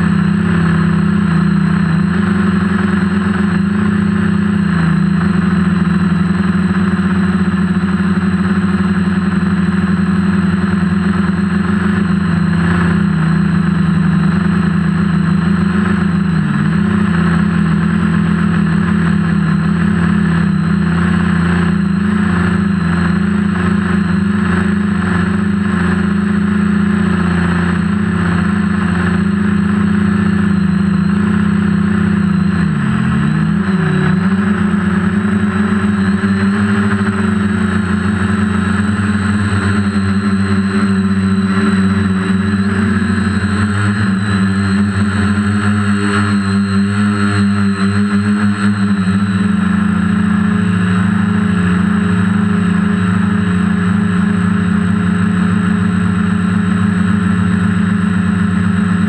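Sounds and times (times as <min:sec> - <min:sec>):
drone propellers buzzing: 0:00.0 - 0:59.0.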